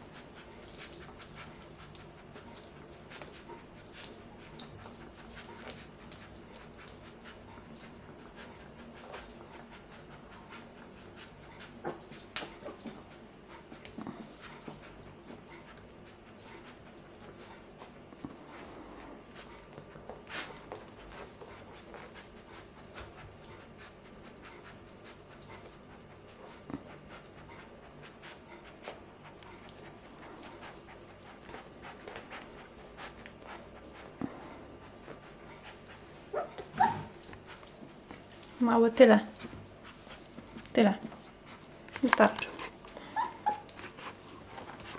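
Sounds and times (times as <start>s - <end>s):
puppy panting: 0.0s - 44.9s.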